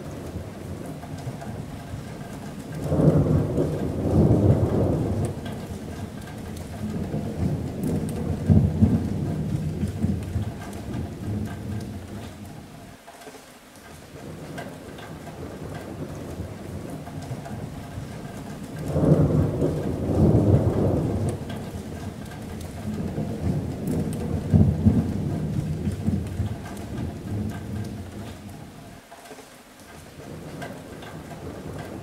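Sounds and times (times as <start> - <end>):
thunder rolling: 0.0 - 12.7, 14.2 - 28.8, 30.3 - 32.0
rain on a metal roof: 0.0 - 32.0.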